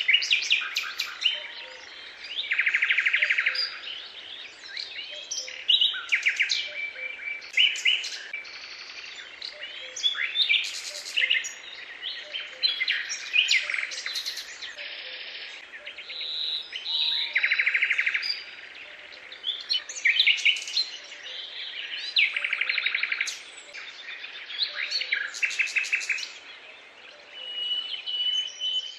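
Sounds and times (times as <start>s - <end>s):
songbirds chirping and trilling: 0.0s - 28.9s.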